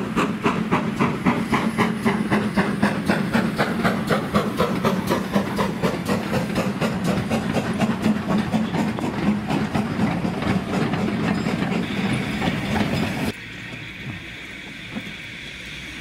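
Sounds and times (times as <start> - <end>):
steam locomotive chugging: 0.0 - 16.0.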